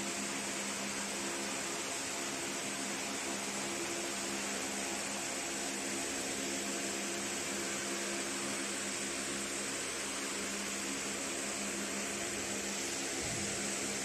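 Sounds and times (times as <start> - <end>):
laser marking machine humming: 0.0 - 14.0.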